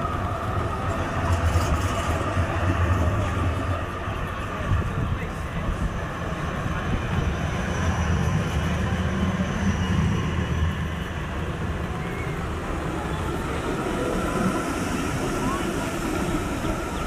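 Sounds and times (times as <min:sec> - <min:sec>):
tram wheels rumbling on rail: 0:00.0 - 0:17.0.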